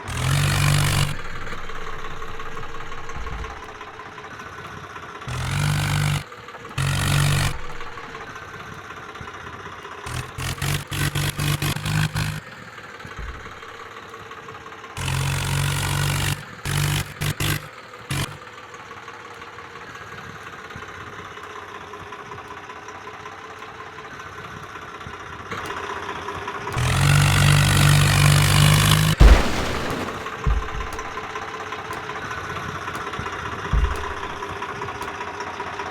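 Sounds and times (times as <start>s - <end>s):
tractor engine running: 0.0s - 9.0s, 9.8s - 20.0s, 22.6s - 35.9s.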